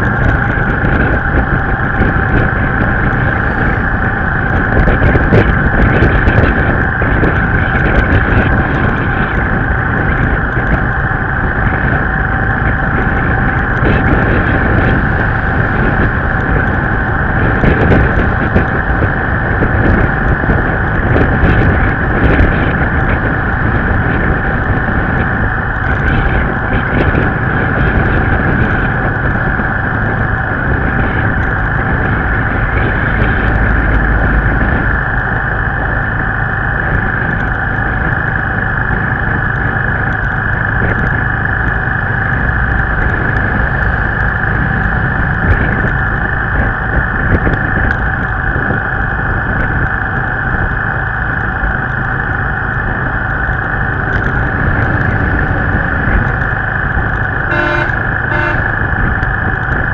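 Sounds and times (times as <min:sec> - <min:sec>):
high whine: 0:00.0 - 0:59.9
vehicle driving on highway: 0:00.0 - 0:59.9
wind rush: 0:00.0 - 0:59.9.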